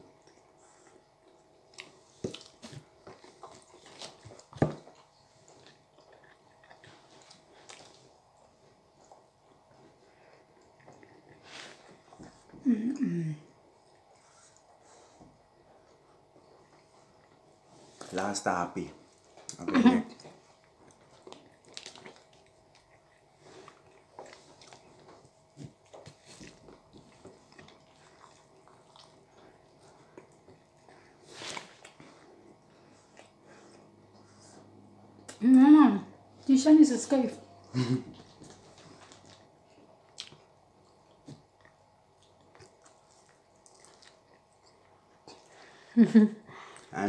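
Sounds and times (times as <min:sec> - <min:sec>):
people chewing food: 0:00.0 - 0:36.5, 0:37.2 - 0:47.0.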